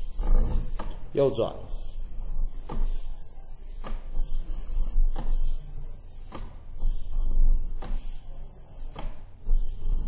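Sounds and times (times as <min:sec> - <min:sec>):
servo motors whirring: 0:00.0 - 0:01.0, 0:01.7 - 0:10.0.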